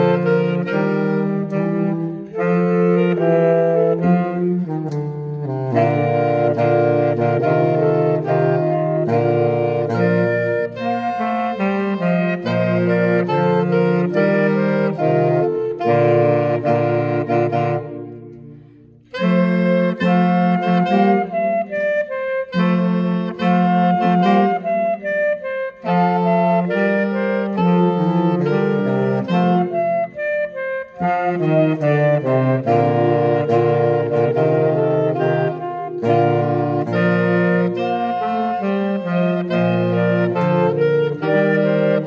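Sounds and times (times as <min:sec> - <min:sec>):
saxophone quartet playing: 0:00.0 - 0:42.0.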